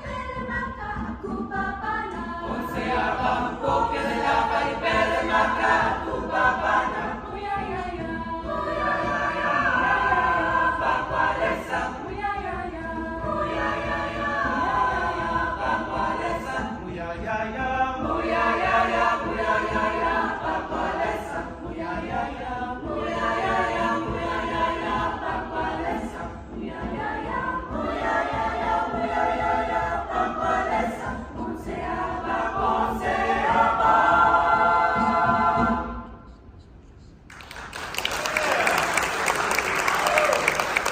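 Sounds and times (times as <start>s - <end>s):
choir singing: 0.0s - 36.6s, 38.6s - 40.9s.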